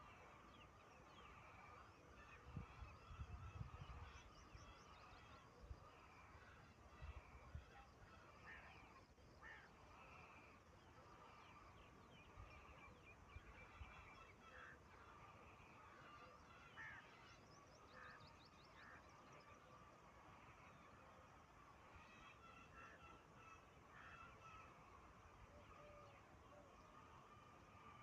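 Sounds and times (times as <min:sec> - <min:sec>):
bird calls: 0:00.0 - 0:28.0.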